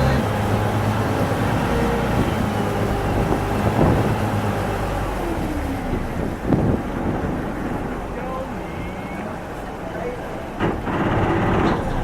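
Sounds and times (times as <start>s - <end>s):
boat engine droning: 0.0s - 12.0s
rushing water: 0.0s - 12.0s
wind: 0.0s - 12.0s.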